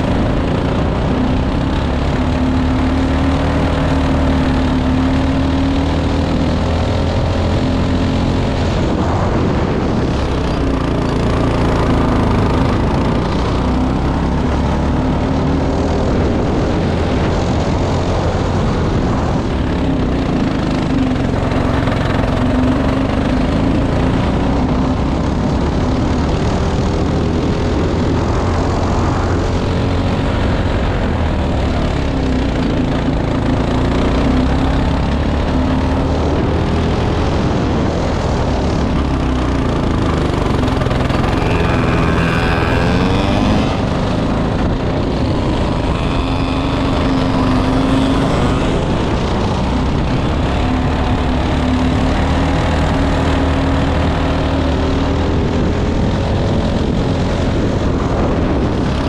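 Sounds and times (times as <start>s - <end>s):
go-kart engine running hard: 0.0s - 59.0s
wind rumble on microphone: 0.0s - 59.0s.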